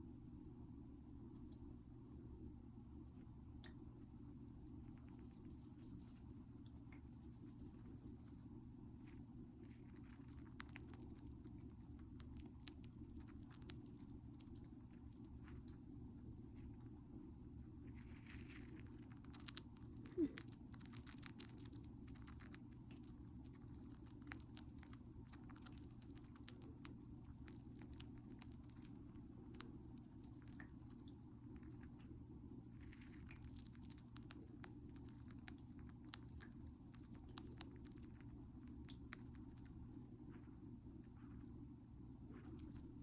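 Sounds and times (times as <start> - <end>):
steady low hum: 0.0 - 43.0
hamster gnawing and crunching: 0.7 - 43.0.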